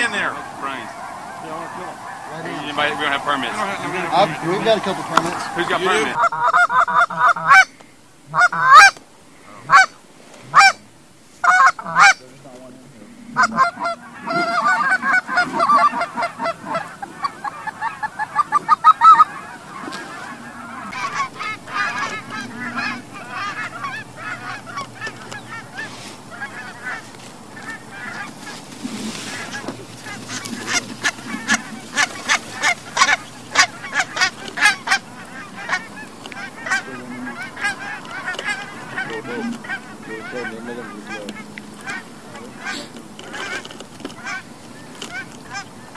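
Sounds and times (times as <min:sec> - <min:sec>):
goose honking: 0:00.0 - 0:07.7, 0:08.3 - 0:45.9
goose clucking calls: 0:00.0 - 0:45.9.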